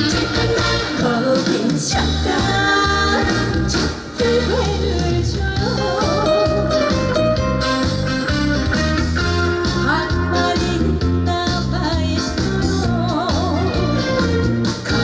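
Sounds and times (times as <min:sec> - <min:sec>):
woman singing: 0:00.0 - 0:08.4, 0:09.6 - 0:15.0
instrumental accompaniment with bass beat: 0:00.0 - 0:15.0.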